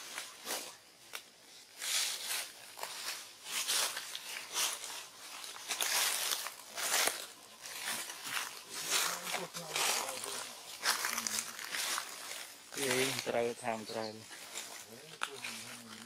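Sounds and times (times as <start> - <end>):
dry leaves and twigs crunching: 0.0 - 16.0.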